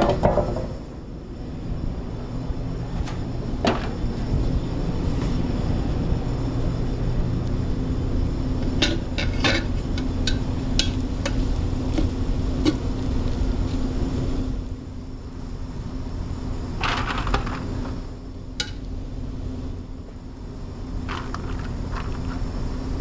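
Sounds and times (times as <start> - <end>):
low kitchen hum: 0.0 - 23.0.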